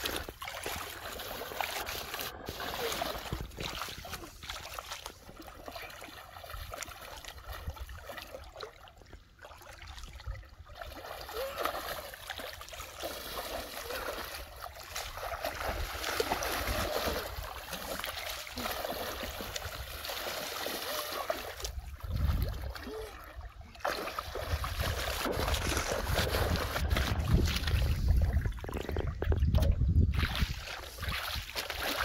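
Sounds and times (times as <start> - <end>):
water splashing and sloshing: 0.0 - 32.0.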